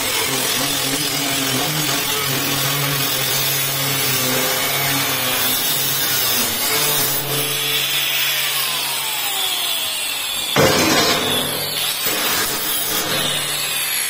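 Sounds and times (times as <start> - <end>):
angle grinder cutting steel: 0.0 - 14.0.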